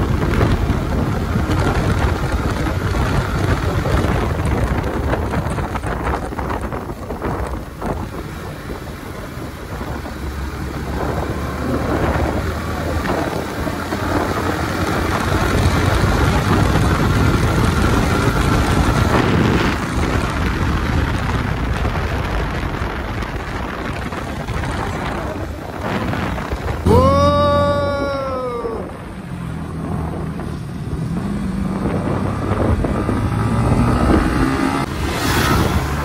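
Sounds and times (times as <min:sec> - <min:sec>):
motorcycle engine rumble: 0:00.0 - 0:36.0
wind rushing over microphone: 0:00.0 - 0:36.0.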